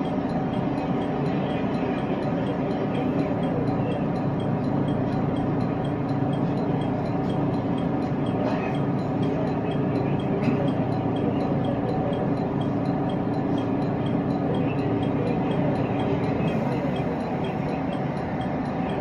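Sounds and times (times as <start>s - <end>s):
train rumble and hum: 0.0s - 19.0s.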